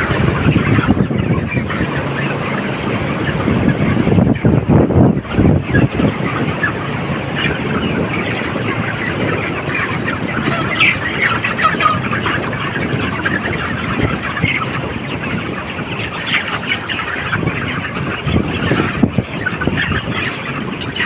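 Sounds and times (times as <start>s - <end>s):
chickens clucking and peeping: 0.0s - 21.0s.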